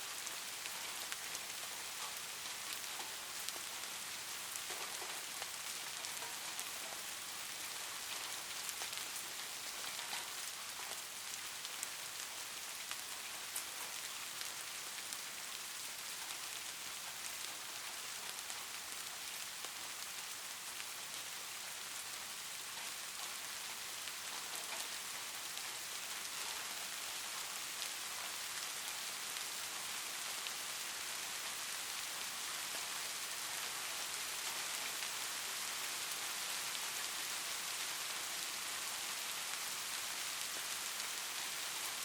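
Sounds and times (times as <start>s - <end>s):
rain hiss: 0.0s - 42.0s.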